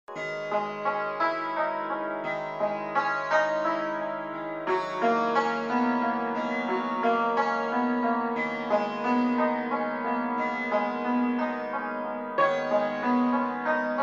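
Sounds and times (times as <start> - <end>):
plucked string melody: 0.1 - 14.0.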